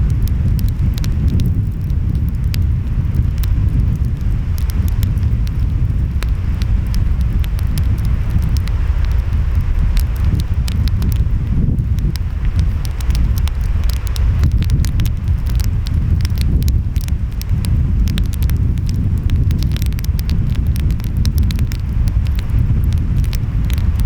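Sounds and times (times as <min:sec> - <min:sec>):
wind: 0:00.0 - 0:24.0
wood fire crackling and popping: 0:00.0 - 0:24.0.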